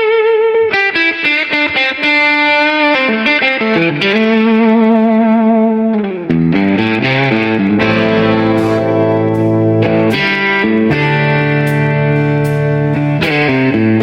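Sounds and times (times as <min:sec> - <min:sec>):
overdriven blues lead guitar: 0:00.0 - 0:14.0.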